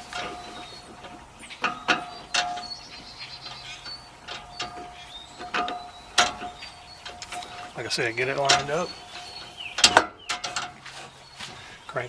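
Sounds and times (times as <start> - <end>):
metal parts clicking and knocking: 0.0 - 11.0.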